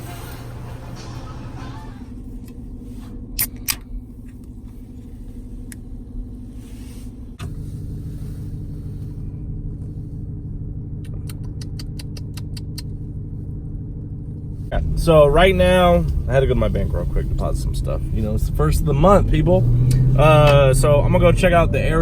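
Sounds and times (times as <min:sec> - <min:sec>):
vehicle rumble from inside cabin: 0:00.0 - 0:22.0.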